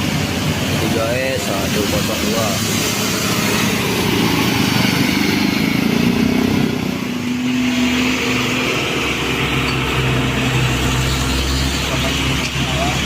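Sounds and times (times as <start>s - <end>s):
diesel bus engine passing: 0.0s - 13.0s.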